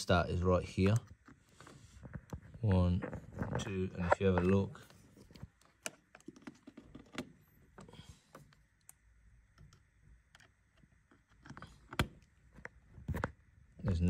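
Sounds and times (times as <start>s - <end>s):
soft handling noise: 0.0s - 14.0s.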